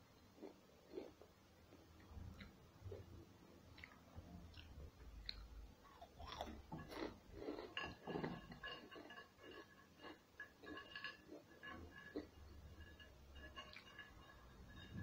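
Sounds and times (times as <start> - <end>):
person chewing food: 0.4 - 1.3, 2.2 - 15.0.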